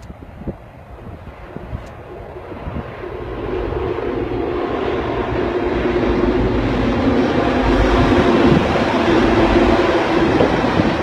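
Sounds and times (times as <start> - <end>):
diesel locomotive engines droning: 0.0 - 11.0.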